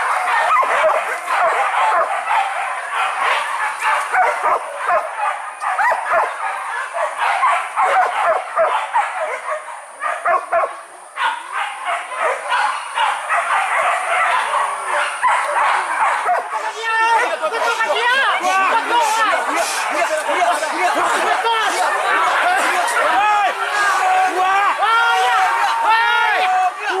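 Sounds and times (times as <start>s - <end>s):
dogs barking and yelping: 0.0s - 24.2s.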